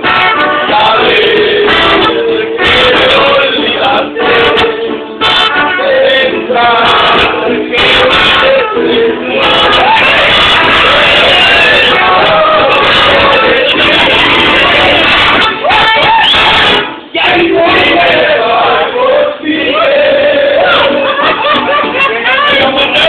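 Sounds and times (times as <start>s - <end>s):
man singing: 0.0s - 16.1s, 16.7s - 23.0s
loud music: 0.0s - 23.0s.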